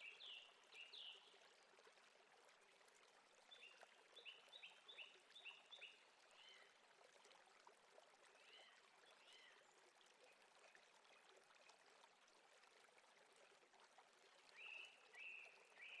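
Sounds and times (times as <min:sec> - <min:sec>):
stream running: 0:00.0 - 0:16.0.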